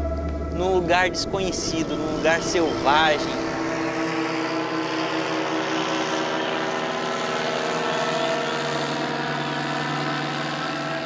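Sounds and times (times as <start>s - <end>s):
paramotor engine droning: 0.0s - 11.0s.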